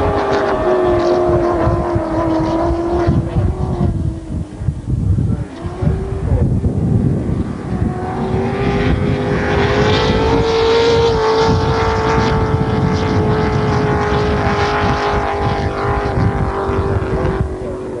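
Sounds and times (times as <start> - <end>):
powerboat engine at high revs: 0.0 - 18.0.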